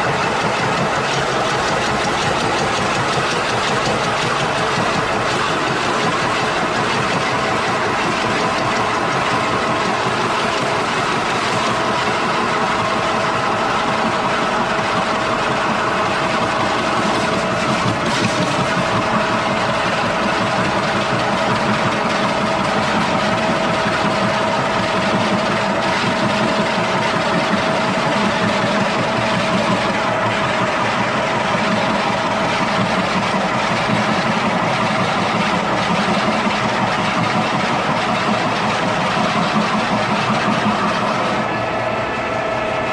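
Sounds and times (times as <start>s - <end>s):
woodworking machinery running: 0.0s - 42.9s.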